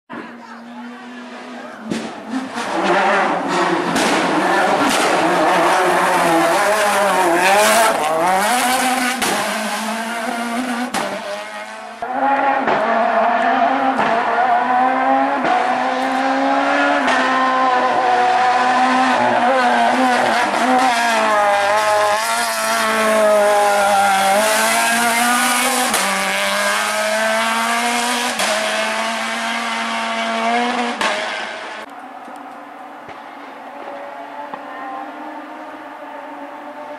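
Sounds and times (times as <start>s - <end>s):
rally car engine at high revs: 0.1s - 36.9s.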